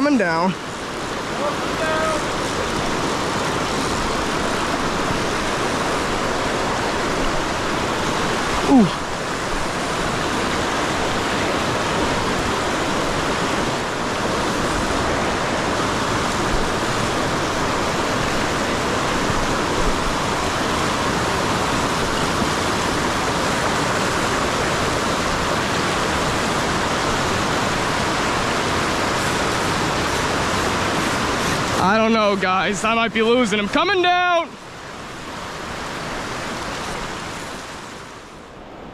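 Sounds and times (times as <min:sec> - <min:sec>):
river current rushing: 0:00.0 - 0:38.9.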